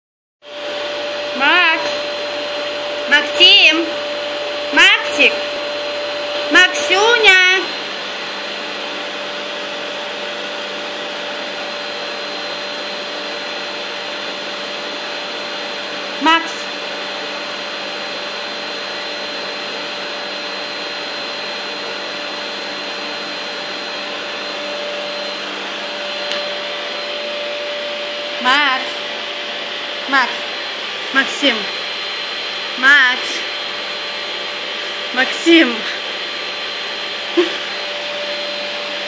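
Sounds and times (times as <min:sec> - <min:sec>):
vacuum cleaner running: 0:00.4 - 0:39.0.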